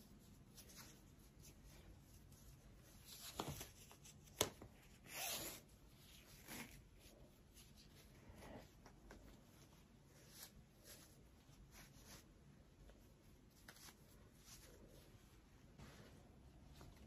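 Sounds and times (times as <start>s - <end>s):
fabric rustling on hair: 0.0s - 17.0s.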